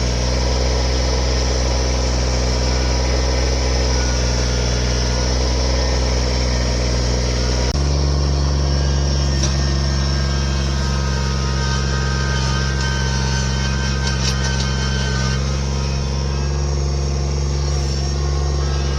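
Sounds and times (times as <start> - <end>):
engine humming: 0.0 - 18.9.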